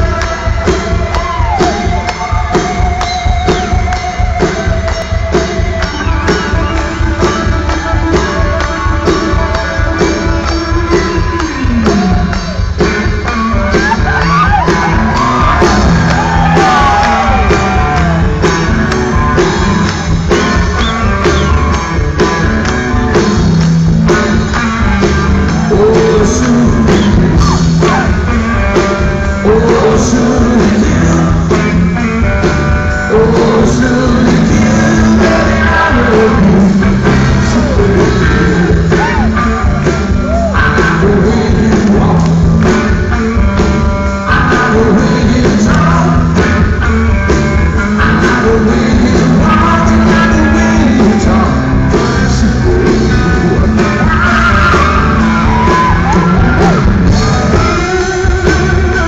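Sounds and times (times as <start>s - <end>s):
lead singer singing: 0.0s - 23.4s, 24.0s - 59.0s
rock band playing live: 0.0s - 59.0s.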